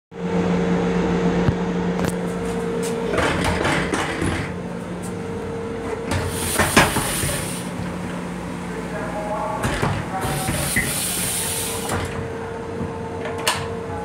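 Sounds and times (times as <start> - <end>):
railcar equipment hum: 0.2 - 14.0.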